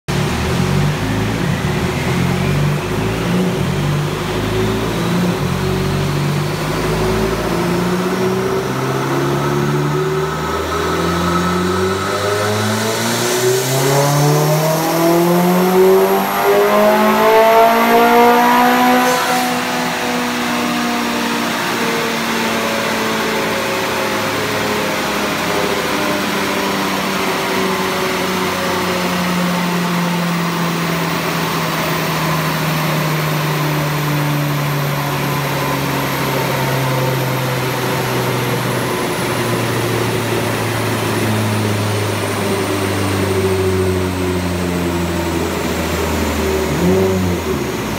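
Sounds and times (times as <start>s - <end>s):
car engine revving on dyno: 0.0s - 47.9s
faint high turbo whine: 0.1s - 47.9s.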